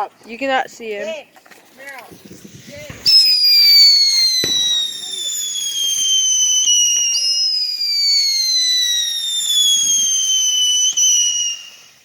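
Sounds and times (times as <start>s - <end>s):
whistling fireworks: 2.1s - 12.0s.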